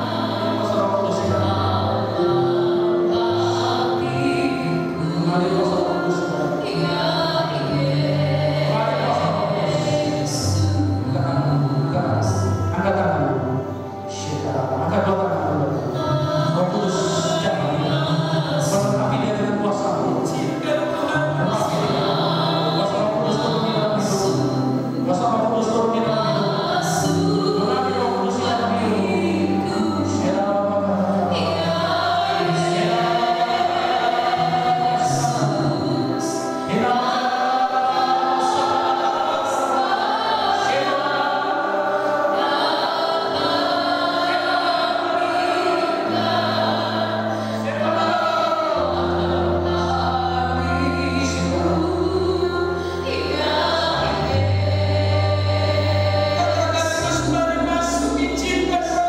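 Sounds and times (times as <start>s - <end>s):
voices singing worship music: 0.0s - 59.0s.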